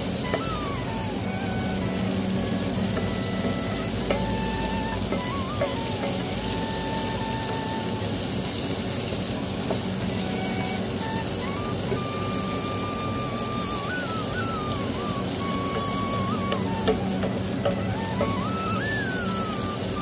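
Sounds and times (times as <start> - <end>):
faint background tune: 0.0 - 8.8, 9.5 - 20.0
food sizzling in oil: 0.0 - 20.0.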